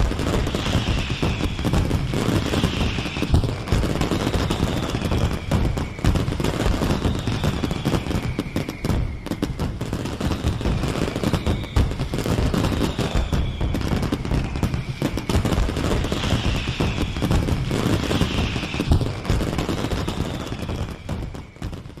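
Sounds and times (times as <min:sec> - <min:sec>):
firework whistles: 0:00.0 - 0:22.0
fireworks crackling and banging: 0:00.0 - 0:22.0.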